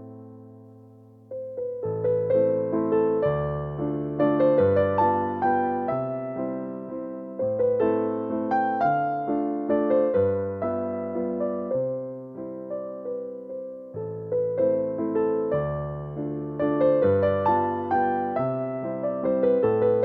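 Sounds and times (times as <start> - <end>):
electric piano chords and melody: 0.0 - 20.0.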